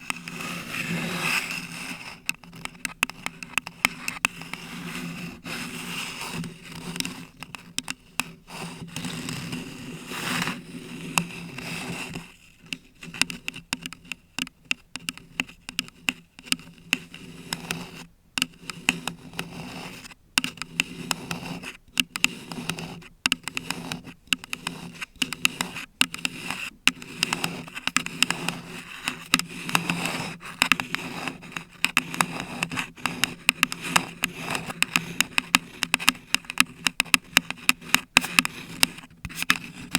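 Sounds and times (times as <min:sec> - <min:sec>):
nails scratching and tapping: 0:00.0 - 0:39.9.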